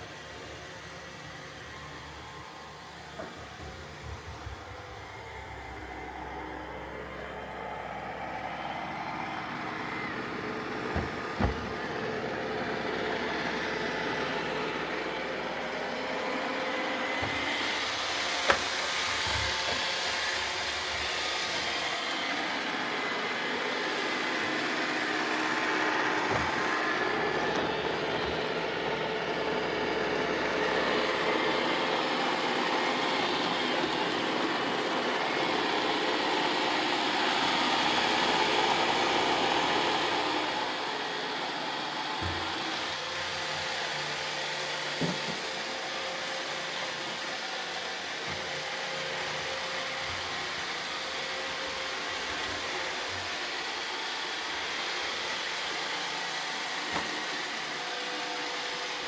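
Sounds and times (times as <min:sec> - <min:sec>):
robot vacuums whirring: 0:00.0 - 0:59.0.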